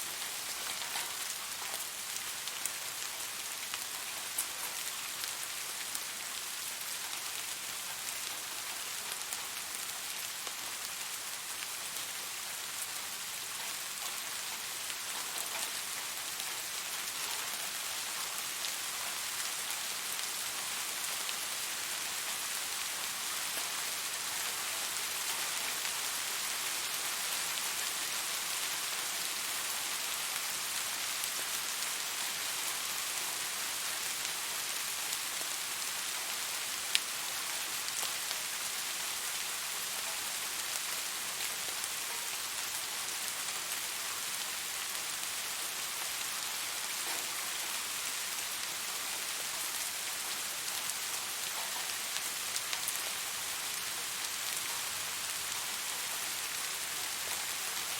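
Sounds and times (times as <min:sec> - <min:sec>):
steady rain hiss: 0:00.0 - 0:57.9
faint raindrop ticks: 0:00.1 - 0:57.9.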